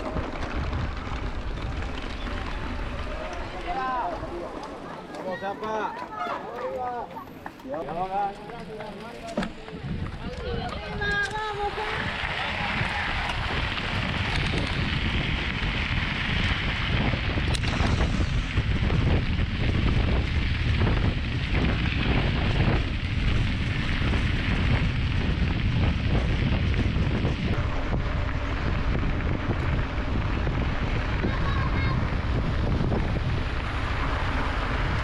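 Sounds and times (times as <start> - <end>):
wind buffeting microphone: 0.0 - 5.6, 7.8 - 35.0
tyre noise on dirt road: 0.0 - 35.0.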